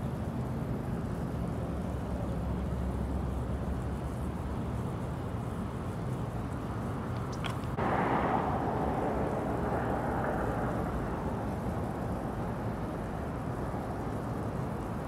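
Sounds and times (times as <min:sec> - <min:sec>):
low outdoor rumble with hum: 0:00.0 - 0:15.0.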